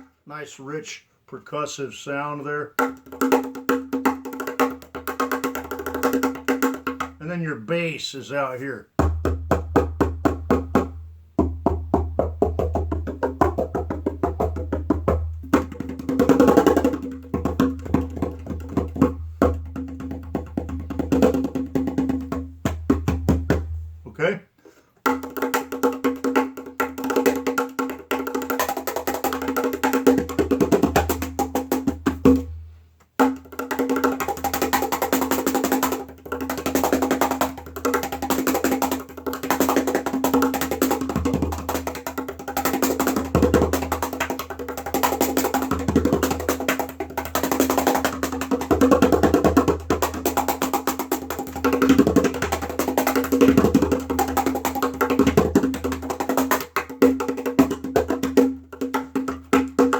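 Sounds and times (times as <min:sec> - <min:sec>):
cajon played by hand: 0:02.8 - 0:07.2, 0:09.0 - 0:23.8, 0:25.0 - 0:32.5, 0:33.2 - 0:59.9.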